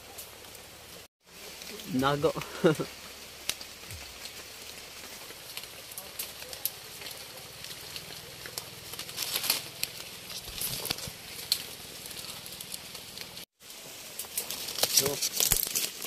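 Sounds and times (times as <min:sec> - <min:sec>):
wet leaves rustling: 0:00.0 - 0:16.0
stems snapping: 0:01.6 - 0:13.4, 0:14.2 - 0:16.0.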